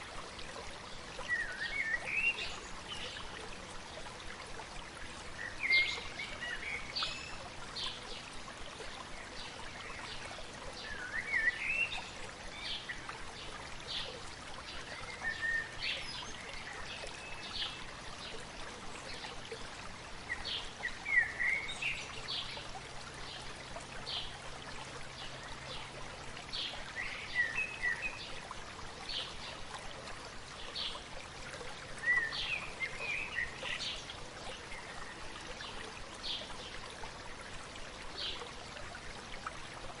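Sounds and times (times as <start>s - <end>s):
songbirds chirping: 0.0s - 40.0s
stream babbling: 0.0s - 40.0s.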